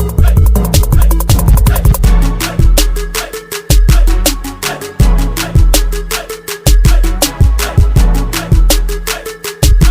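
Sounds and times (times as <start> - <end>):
electronic music with heavy bass: 0.0 - 9.9.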